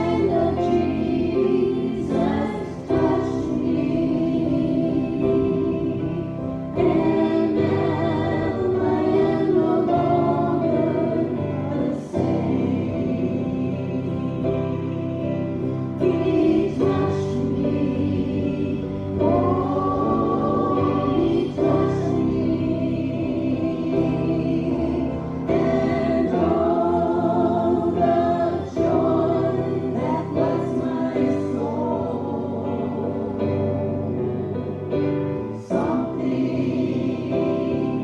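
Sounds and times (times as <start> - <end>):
group singing a gospel hymn: 0.0 - 38.0.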